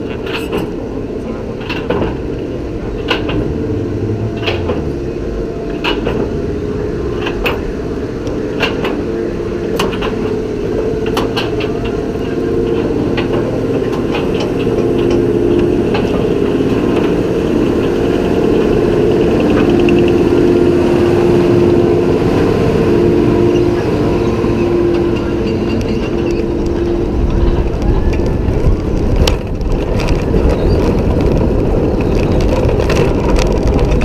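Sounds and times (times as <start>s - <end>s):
lift drive mechanical hum: 0.0s - 34.0s
roller coaster clicks: 0.0s - 34.0s.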